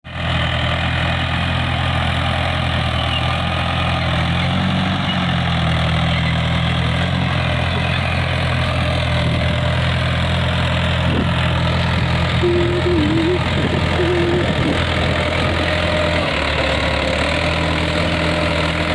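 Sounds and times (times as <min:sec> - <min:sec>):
tractor diesel engine running: 0:00.1 - 0:18.9.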